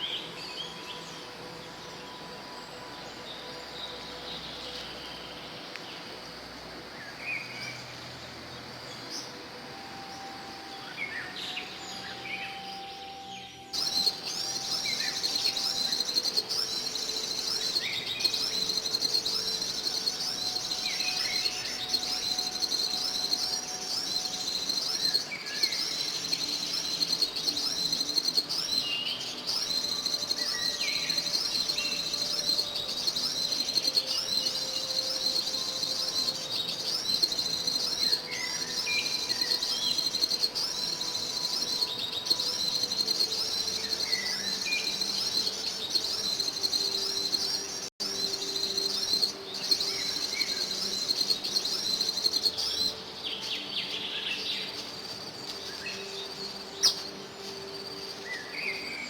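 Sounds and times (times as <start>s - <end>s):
insect chorus trilling: 0.0s - 59.0s
bird chirps: 9.0s - 59.0s.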